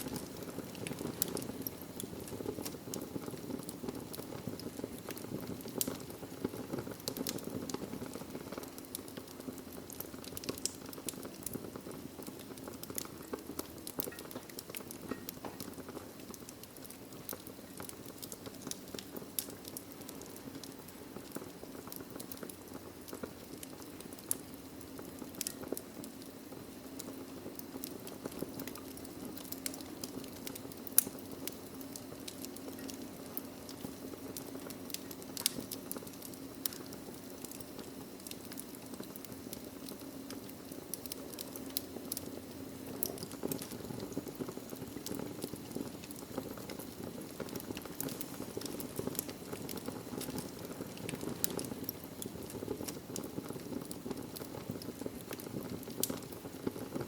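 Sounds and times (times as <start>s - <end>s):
logs crackling and popping: 0.0s - 57.0s
wood fire burning: 0.0s - 57.0s.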